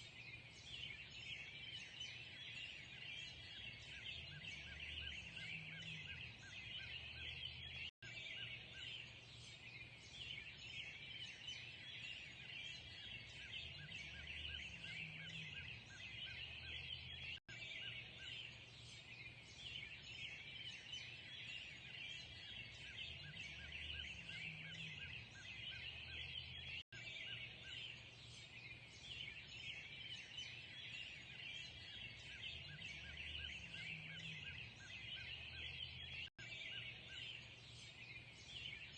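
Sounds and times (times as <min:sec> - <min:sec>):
many birds chirping: 0:00.0 - 0:38.9.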